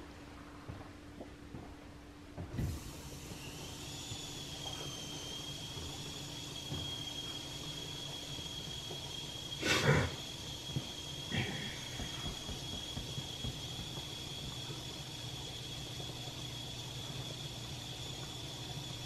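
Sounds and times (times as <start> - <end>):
dishwasher humming: 2.3 - 19.0
high whine: 2.4 - 19.0
dishwasher water rush: 2.5 - 19.0.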